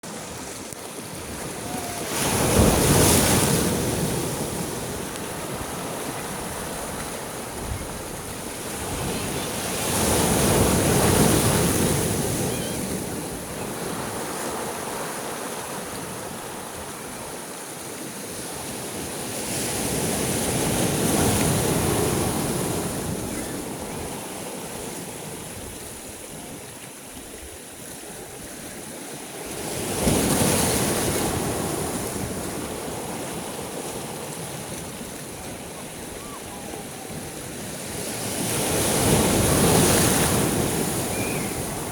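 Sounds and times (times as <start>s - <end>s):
sea waves washing in: 0.0s - 27.1s, 27.7s - 41.9s.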